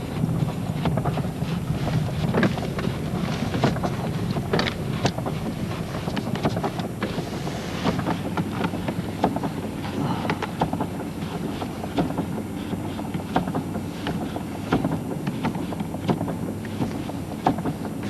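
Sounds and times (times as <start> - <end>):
low road rumble: 0.0 - 18.0
tyres crunching on snow: 0.0 - 18.0.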